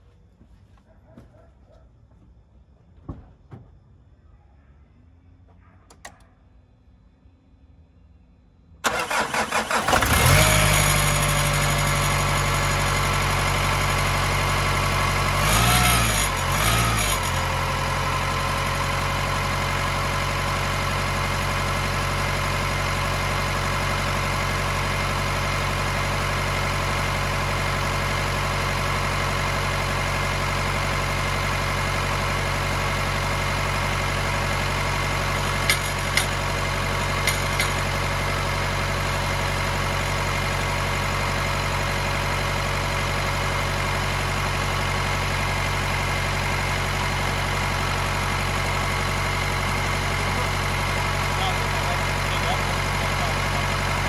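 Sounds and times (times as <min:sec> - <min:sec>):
diesel engine idling: 0:08.8 - 0:54.0.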